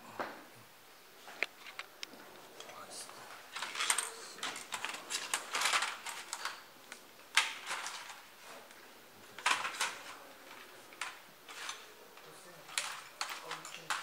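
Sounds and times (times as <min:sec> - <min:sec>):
hand tools clicking and clattering: 0:02.6 - 0:14.0.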